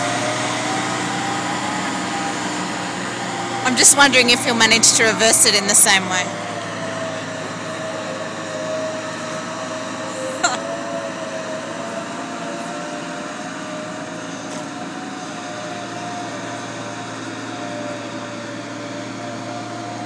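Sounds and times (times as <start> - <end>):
diesel truck engine droning: 0.0 - 20.0.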